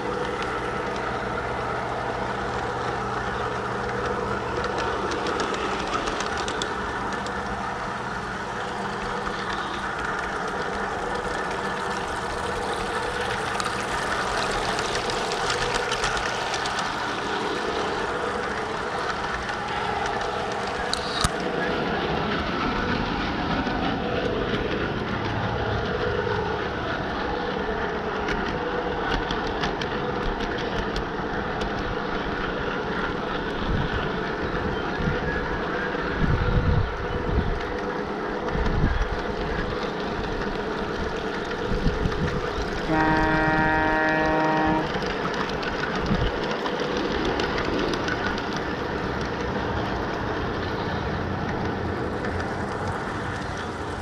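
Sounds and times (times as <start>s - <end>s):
model train wheels rolling on rails: 0.0s - 54.0s.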